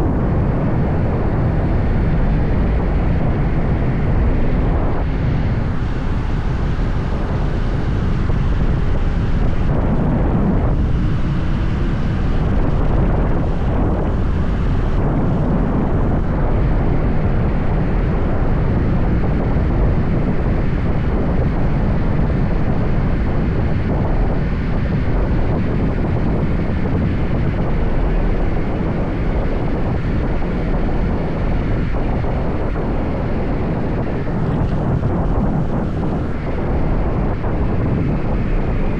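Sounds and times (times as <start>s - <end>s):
motorbike engine and road noise: 0.0s - 38.9s
wind rushing over microphone: 0.0s - 38.9s.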